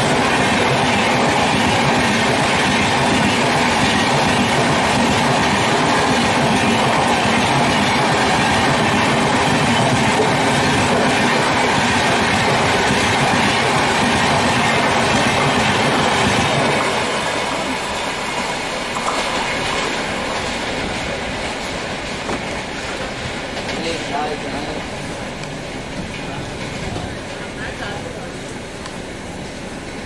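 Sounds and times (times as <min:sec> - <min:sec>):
train wheels rumbling over rails: 0:00.0 - 0:30.0.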